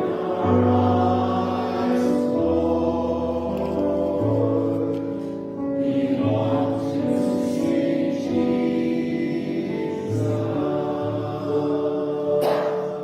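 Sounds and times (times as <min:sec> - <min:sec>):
slow hymn music: 0:00.0 - 0:13.0.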